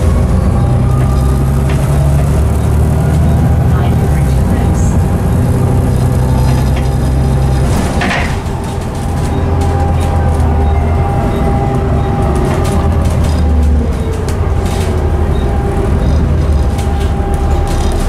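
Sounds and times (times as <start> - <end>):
bus diesel engine droning: 0.0 - 18.0
constant whine: 0.0 - 18.0.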